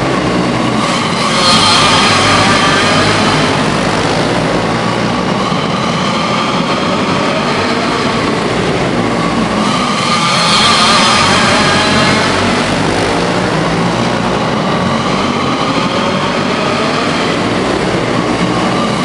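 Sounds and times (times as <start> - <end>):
go-kart engines whining: 0.0 - 19.0.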